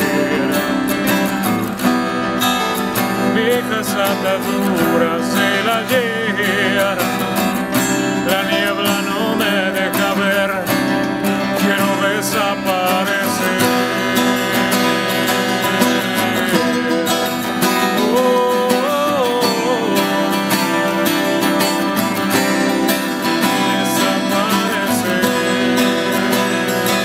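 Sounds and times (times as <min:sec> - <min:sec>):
acoustic guitars playing folk song: 0:00.0 - 0:27.0
wordless singing: 0:00.0 - 0:27.0.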